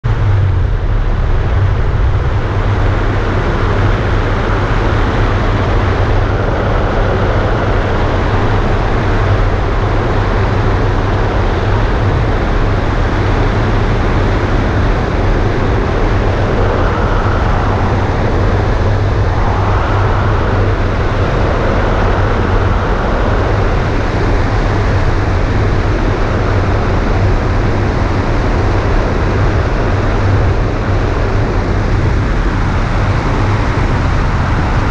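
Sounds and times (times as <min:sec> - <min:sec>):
wind rush: 0:00.0 - 0:34.9.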